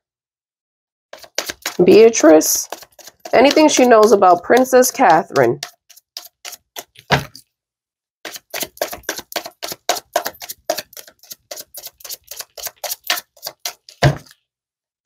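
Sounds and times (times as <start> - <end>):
cards being shuffled: 1.2 - 7.4, 8.3 - 14.4.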